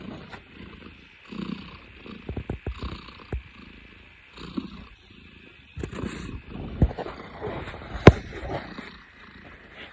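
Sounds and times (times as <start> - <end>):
cat purring: 0.0 - 9.9.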